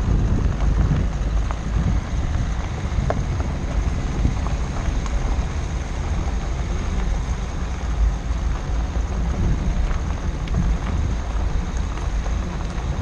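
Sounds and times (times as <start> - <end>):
gravel clicks under tyres: 0.0 - 13.0
tyre and wind rumble: 0.0 - 13.0.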